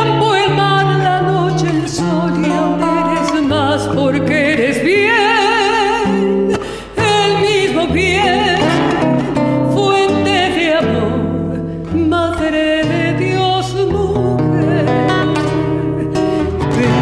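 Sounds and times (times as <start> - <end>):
acoustic guitar: 0.0 - 17.0
woman singing with vibrato: 0.0 - 17.0.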